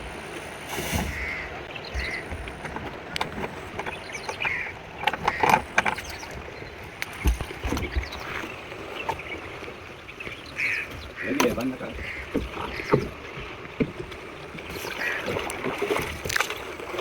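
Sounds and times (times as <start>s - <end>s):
water splashing around a boat: 0.0s - 17.0s.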